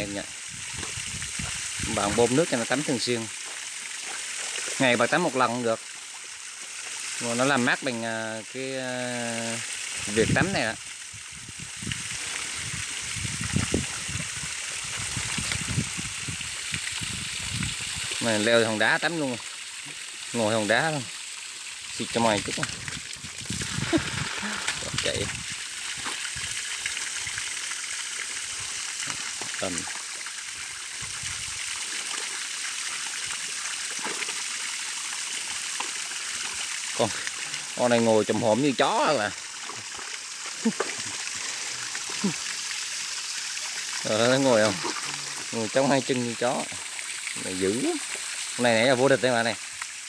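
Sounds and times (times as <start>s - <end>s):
hose water spraying and splashing: 0.0s - 50.0s.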